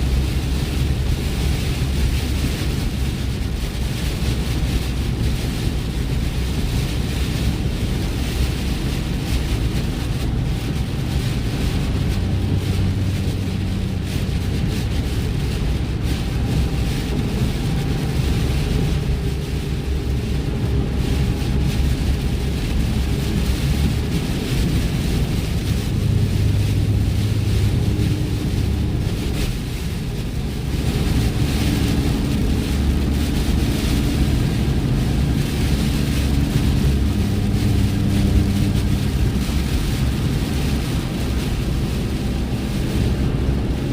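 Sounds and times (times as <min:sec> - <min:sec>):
engine and tyre drone: 0:00.0 - 0:43.9
tyres hissing on wet pavement: 0:00.0 - 0:43.9.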